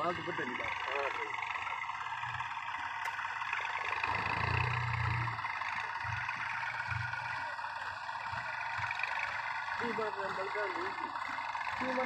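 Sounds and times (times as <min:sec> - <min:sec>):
diesel tractor engines rumbling: 0:00.0 - 0:12.0.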